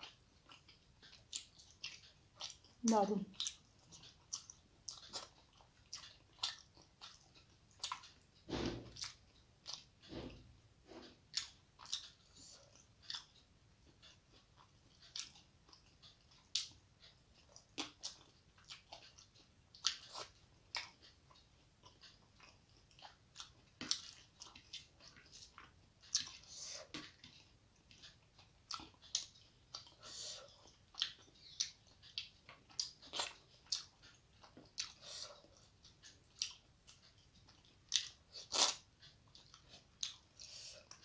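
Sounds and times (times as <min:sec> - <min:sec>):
wet chewing and lip-smacking: 0:00.0 - 0:41.0.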